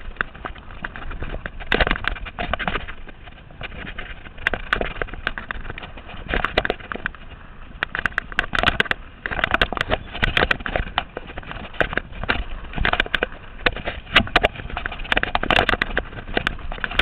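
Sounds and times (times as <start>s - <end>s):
bike frame rattling: 0.0s - 17.0s.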